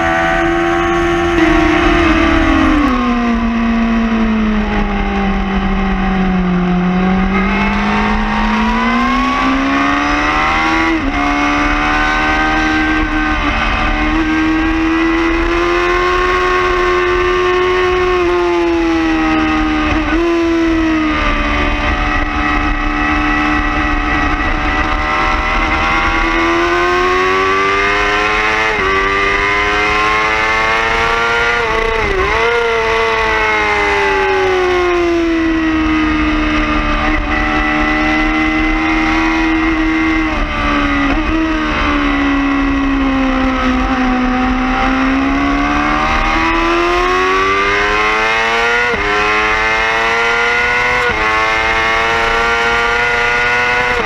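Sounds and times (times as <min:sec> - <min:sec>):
low wind rush: 0:00.0 - 0:54.0
motorcycle engine at high revs: 0:00.0 - 0:54.0.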